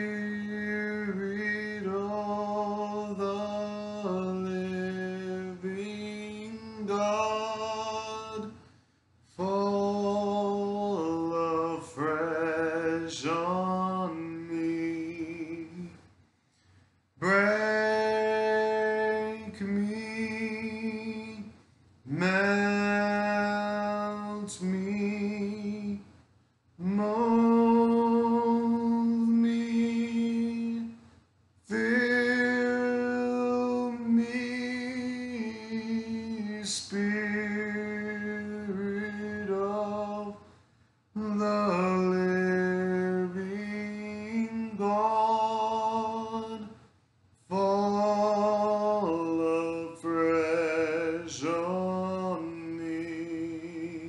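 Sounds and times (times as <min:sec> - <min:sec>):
man singing a hymn a cappella: 0:00.0 - 0:54.0.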